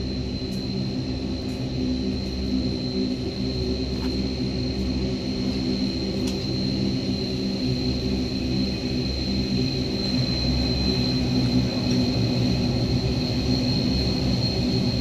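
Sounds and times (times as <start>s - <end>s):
low propeller drone: 0.0s - 15.0s
turboprop engine whine: 0.0s - 15.0s.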